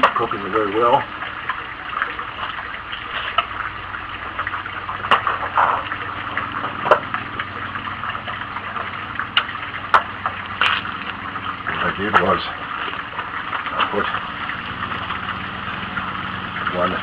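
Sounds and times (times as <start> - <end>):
wood fire rushing and crackling: 1.0 - 17.0.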